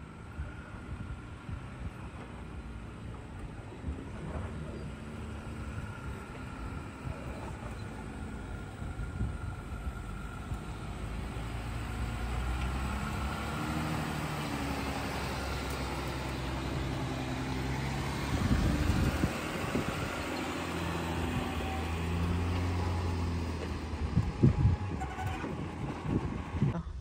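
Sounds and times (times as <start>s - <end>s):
engine pulling at crawling speed: 0.0s - 27.0s
rough rumble: 0.6s - 27.0s.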